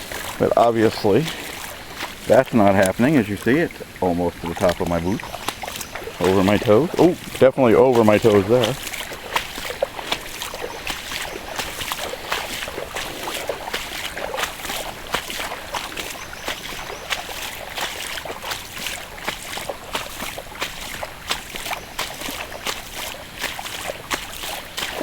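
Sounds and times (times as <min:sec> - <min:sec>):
boots sloshing through water: 0:00.0 - 0:25.0.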